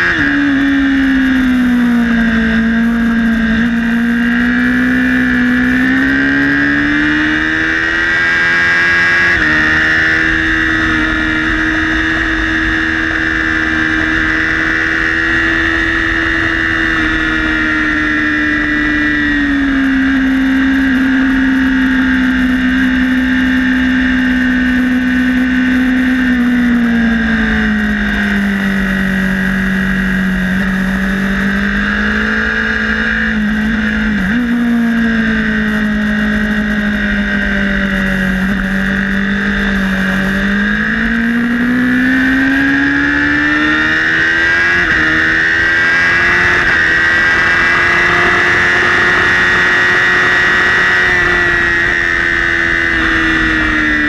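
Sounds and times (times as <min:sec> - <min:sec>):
motorcycle engine at high revs: 0:00.0 - 0:54.0.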